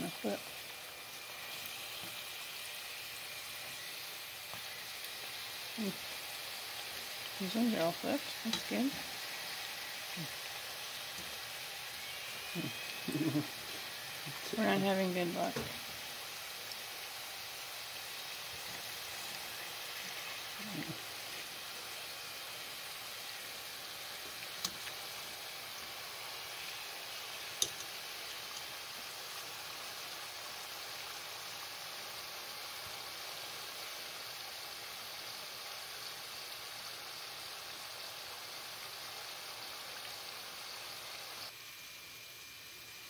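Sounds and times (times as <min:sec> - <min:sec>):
batter deep-frying in oil: 0:00.0 - 0:43.0.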